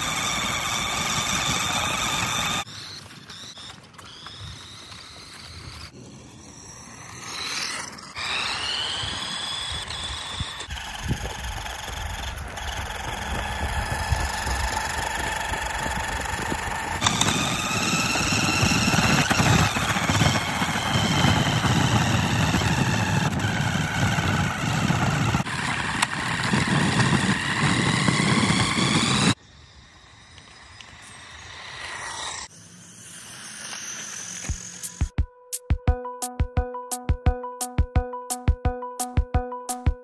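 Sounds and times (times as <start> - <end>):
electric motor whining: 0.0 - 35.1.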